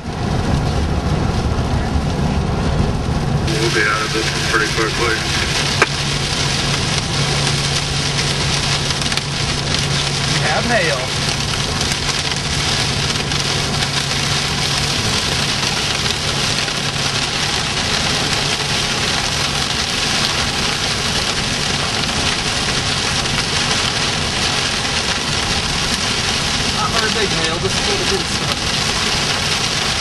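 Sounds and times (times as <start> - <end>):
car interior low hum: 0.0 - 30.0
hail and rain on car windshield: 0.0 - 30.0.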